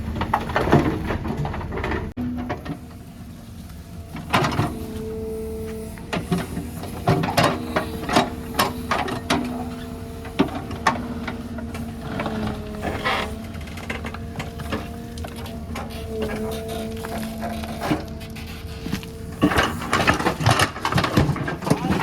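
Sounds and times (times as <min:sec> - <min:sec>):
backhoe engine and hydraulic whine: 0:00.0 - 0:22.0.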